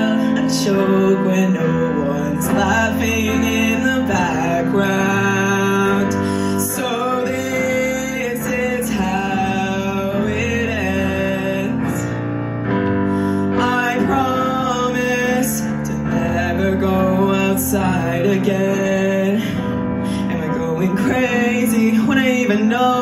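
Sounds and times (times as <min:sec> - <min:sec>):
woman singing into a microphone: 0:00.0 - 0:12.2, 0:13.5 - 0:23.0
digital piano chords: 0:00.0 - 0:23.0.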